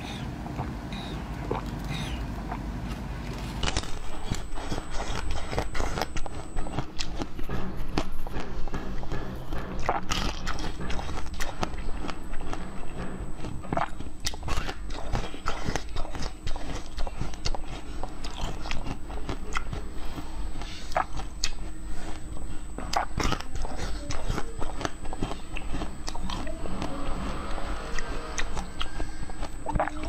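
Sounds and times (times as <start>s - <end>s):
wet mouth chewing: 0.1s - 30.0s.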